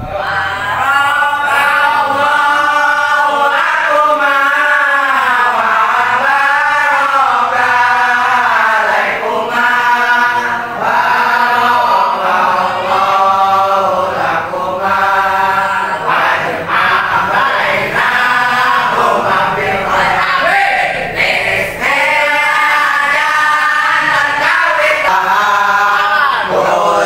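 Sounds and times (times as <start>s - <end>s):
young men chanting in unison: 0.0s - 27.0s.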